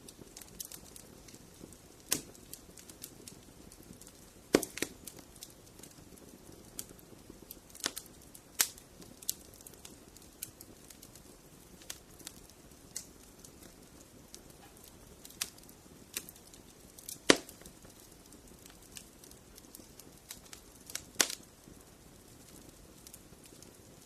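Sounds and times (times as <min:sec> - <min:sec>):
faint steady hiss: 0:00.0 - 0:24.0
fire crackling and popping: 0:00.0 - 0:24.0.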